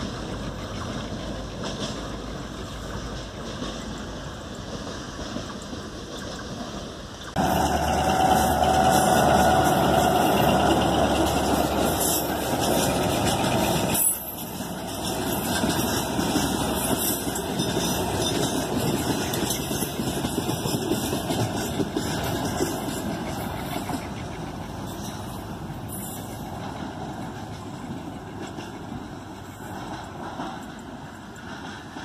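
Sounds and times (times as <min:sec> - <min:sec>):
diesel locomotive engine: 0:00.0 - 0:32.0
train wheels rolling on track: 0:00.0 - 0:32.0.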